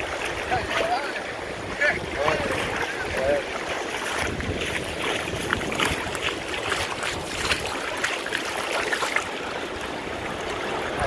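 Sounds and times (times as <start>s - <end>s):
shallow seawater splashing: 0.0s - 11.0s.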